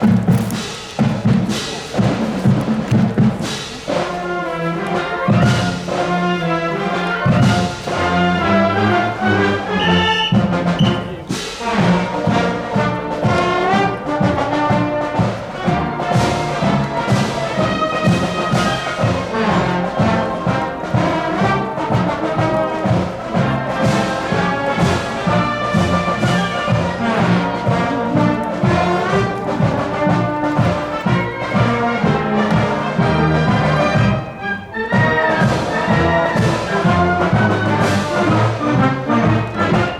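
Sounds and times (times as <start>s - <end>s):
brass band playing a march: 0.0s - 39.9s
steady drum beat: 0.0s - 39.9s.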